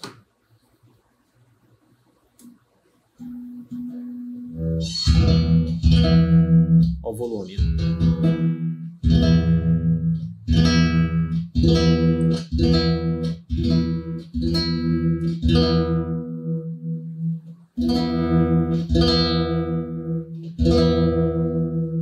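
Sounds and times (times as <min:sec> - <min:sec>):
guitar note plucked: 0:03.2 - 0:22.0.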